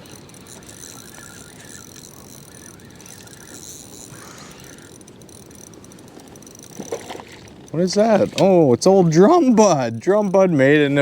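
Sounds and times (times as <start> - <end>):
fishing reel being cranked: 0.0 - 11.0
steady outdoor hiss: 0.0 - 11.0.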